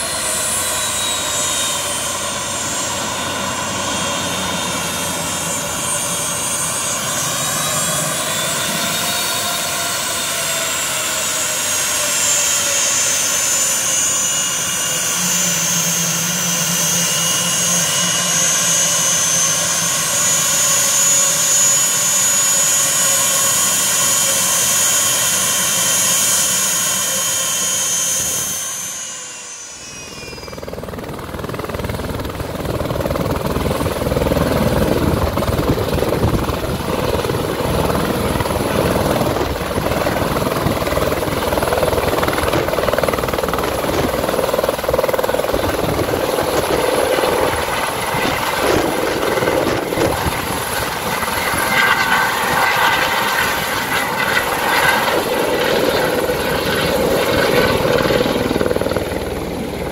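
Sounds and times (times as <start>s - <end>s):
helicopter hovering: 0.0s - 59.9s
high turbine whine: 0.0s - 59.9s.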